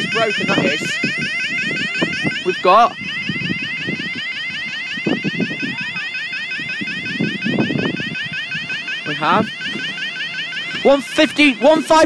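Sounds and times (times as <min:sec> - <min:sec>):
level crossing alarm sweeping: 0:00.0 - 0:12.0.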